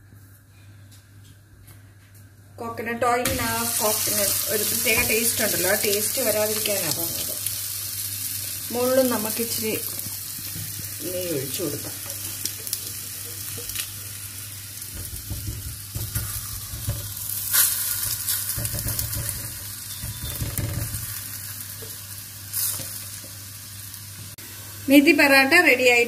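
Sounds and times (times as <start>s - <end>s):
ghee sizzling on a griddle: 3.3s - 26.0s.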